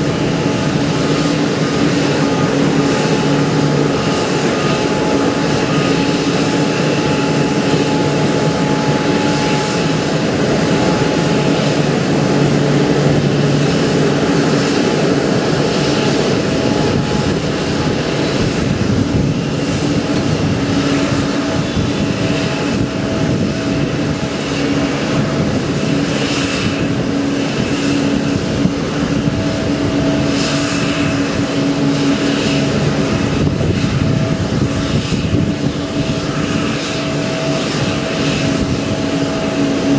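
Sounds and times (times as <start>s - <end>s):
jet airliners idling: 0.0s - 39.9s.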